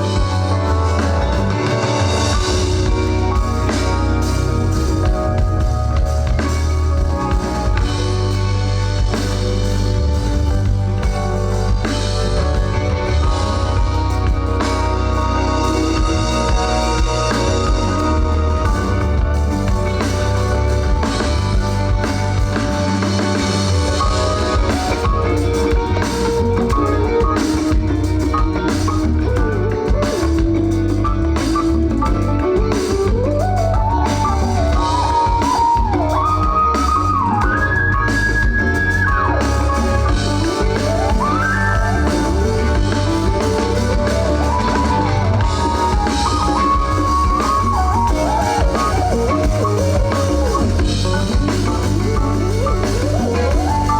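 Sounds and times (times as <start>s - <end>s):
live band playing instrumental: 0.0s - 53.9s
sliding lead melody: 0.0s - 53.9s.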